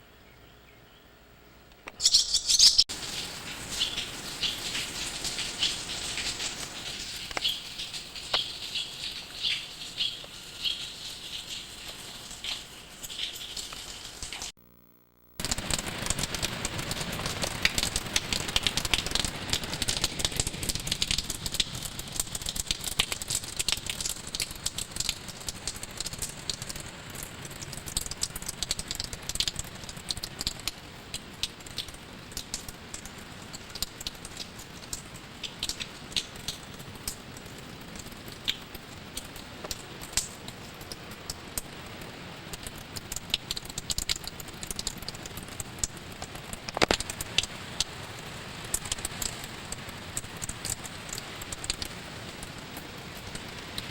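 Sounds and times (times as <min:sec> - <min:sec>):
rain drops striking hard surface: 0:02.9 - 0:14.5, 0:15.4 - 0:53.9.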